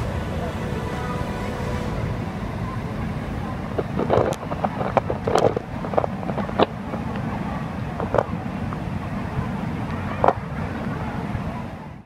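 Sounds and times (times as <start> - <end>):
waterfall and river rumble: 0.0 - 12.0.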